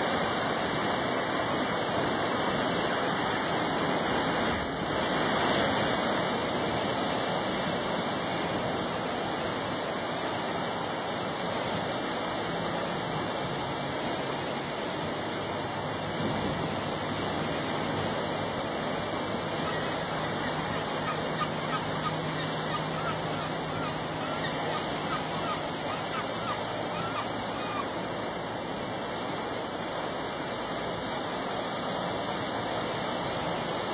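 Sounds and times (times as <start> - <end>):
ocean surf on rocky shore: 0.0 - 33.9.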